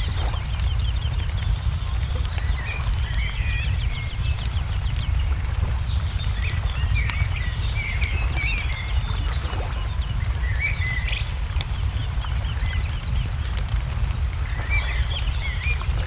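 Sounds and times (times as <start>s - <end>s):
birds chirping: 0.0s - 16.0s
wood fire crackling: 0.0s - 16.0s.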